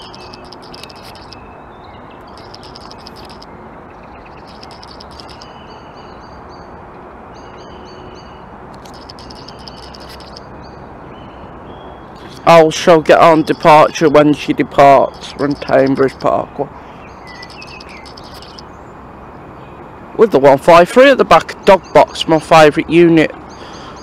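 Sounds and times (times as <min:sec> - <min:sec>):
small birds chirping: 0:00.0 - 0:06.8, 0:07.4 - 0:19.8
station and traffic rumble: 0:00.0 - 0:24.0.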